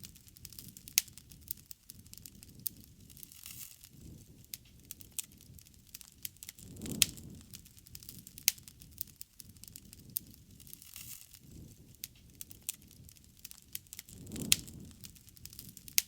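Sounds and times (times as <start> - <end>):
low rushing of flame: 0.0 - 16.0
wood fire crackling: 0.0 - 16.0.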